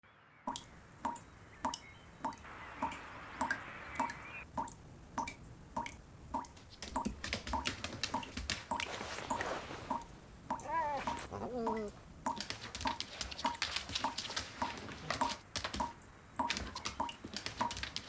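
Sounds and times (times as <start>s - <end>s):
water dripping: 0.5s - 18.0s.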